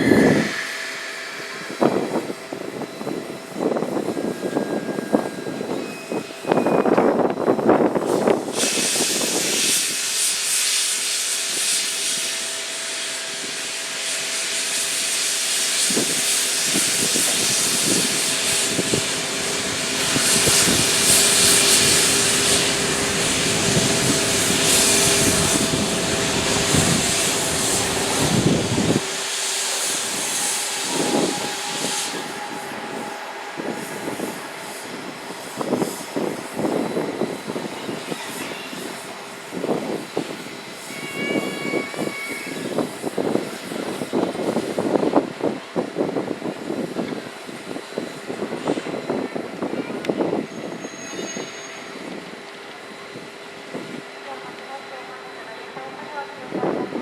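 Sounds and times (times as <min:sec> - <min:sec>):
steam locomotive hissing steam: 0:00.0 - 0:57.0.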